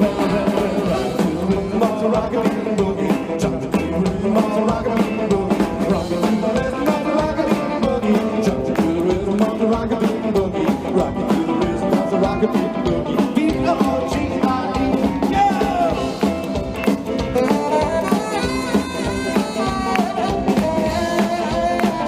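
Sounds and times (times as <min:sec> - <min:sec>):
guitar lines: 0:00.0 - 0:22.0
rockabilly band playing: 0:00.0 - 0:22.0
steady drum beat: 0:00.0 - 0:22.0.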